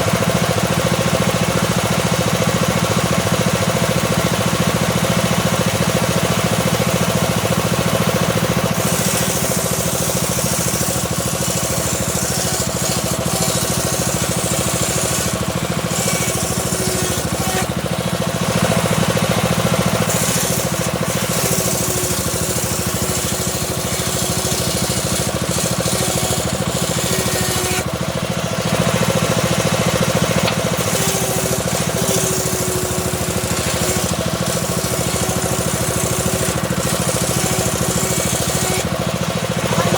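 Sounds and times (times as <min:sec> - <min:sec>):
circular saw running: 0:00.0 - 0:39.9
saw blade cutting wood: 0:00.0 - 0:39.9.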